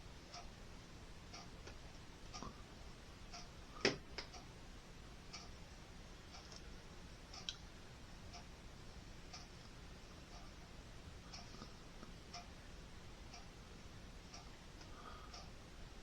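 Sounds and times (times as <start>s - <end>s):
clock ticking faintly: 0.0s - 16.0s.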